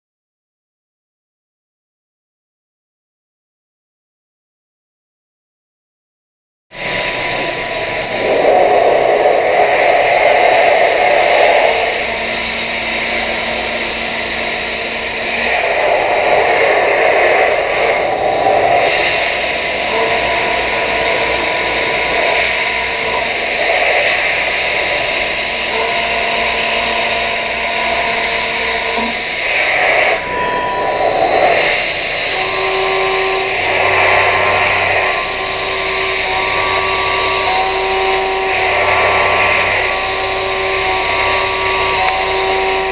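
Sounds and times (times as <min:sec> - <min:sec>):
milling machine cutting metal: 0:06.8 - 0:42.9.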